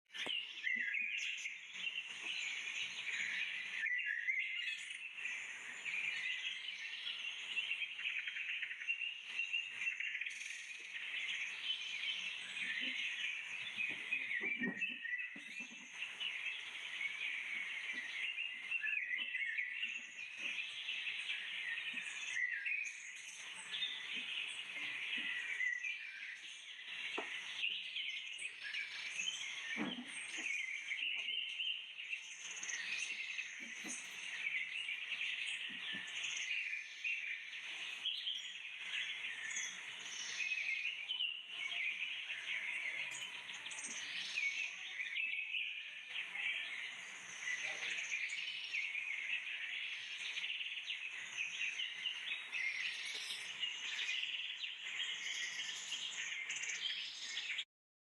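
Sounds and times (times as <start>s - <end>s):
birds chirping and calling: 0.1s - 57.6s.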